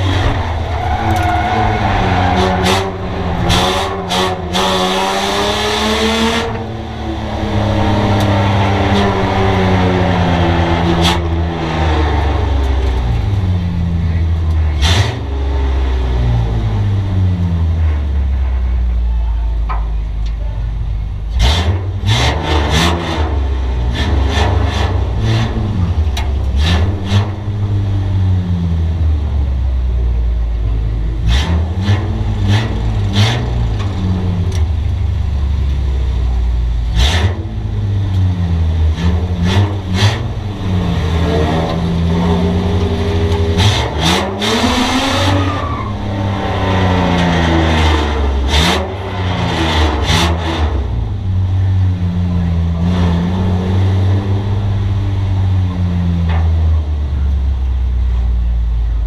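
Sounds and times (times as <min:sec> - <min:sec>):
loud car engine revving: 0:00.0 - 0:19.0, 0:21.2 - 0:59.0.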